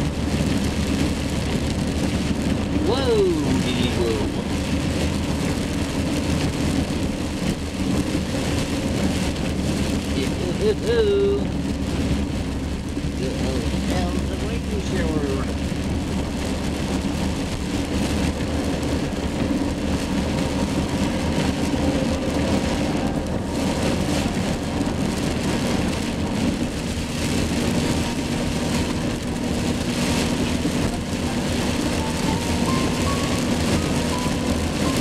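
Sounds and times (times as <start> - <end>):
car engine running: 0.0 - 35.0
heavy rain on a car: 0.0 - 35.0
tyres on a wet road: 0.0 - 35.0.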